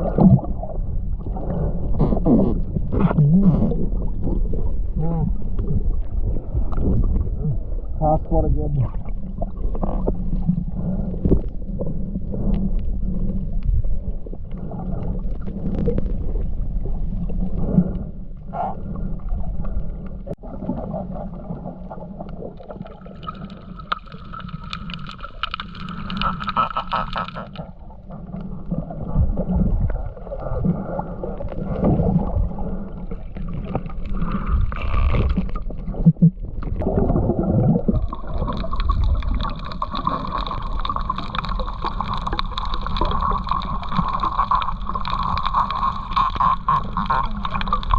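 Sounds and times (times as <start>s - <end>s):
underwater water rumbling and gurgling: 0.0s - 47.9s.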